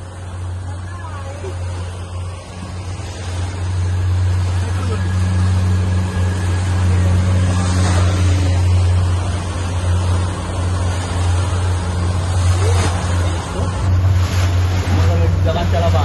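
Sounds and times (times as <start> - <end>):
outboard motor droning: 0.0 - 16.0
water rushing along hull: 0.0 - 16.0.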